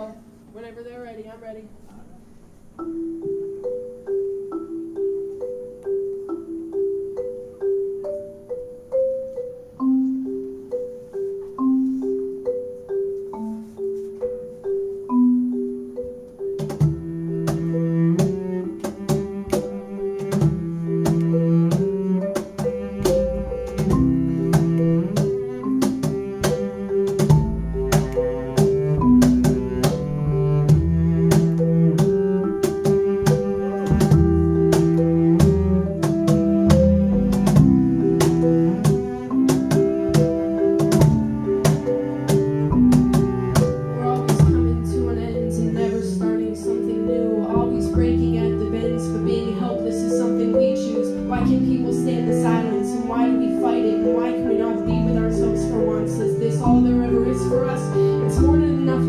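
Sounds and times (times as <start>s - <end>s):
marimba playing: 0.0s - 59.0s
percussion: 0.0s - 59.0s
cello: 9.8s - 59.0s.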